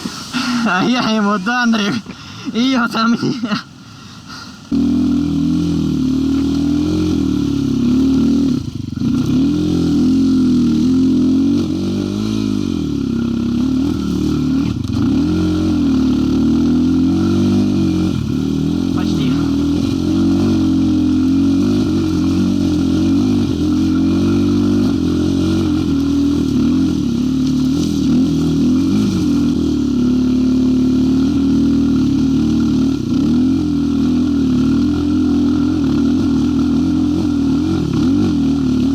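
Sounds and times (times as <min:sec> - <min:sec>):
motorcycle engine revving: 0:04.6 - 0:38.9.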